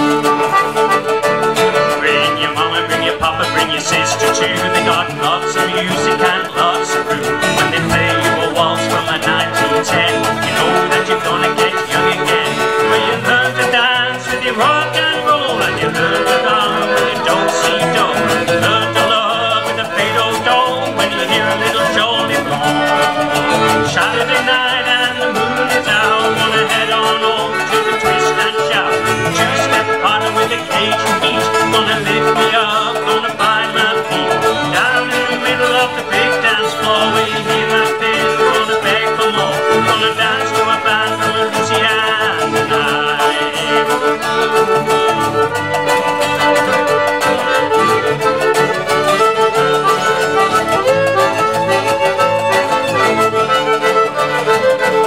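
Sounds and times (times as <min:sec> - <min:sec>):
acoustic guitar: 0:00.0 - 0:55.0
button accordion: 0:00.0 - 0:55.0
fiddle: 0:00.0 - 0:55.0
resonator guitar: 0:00.0 - 0:55.0.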